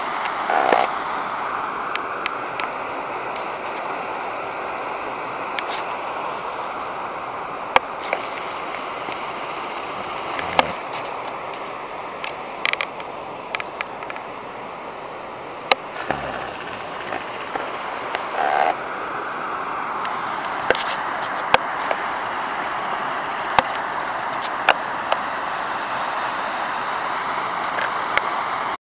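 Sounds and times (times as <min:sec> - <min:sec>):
water rushing through channel: 0:00.0 - 0:28.8.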